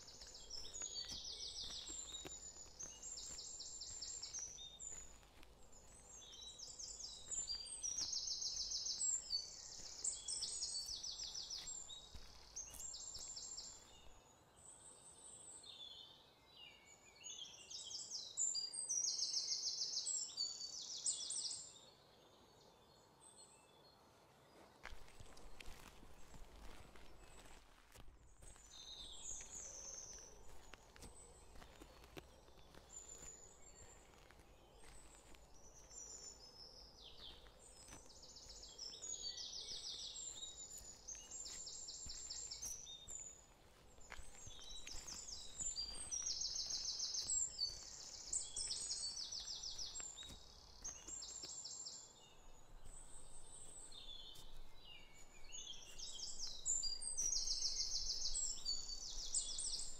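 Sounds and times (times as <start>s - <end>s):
birds singing: 0.0s - 23.9s, 28.4s - 59.9s.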